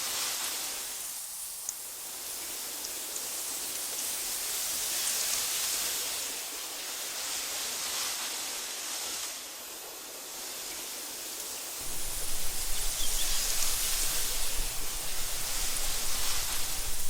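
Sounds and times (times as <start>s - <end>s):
wind blowing through grass: 0.0s - 17.0s.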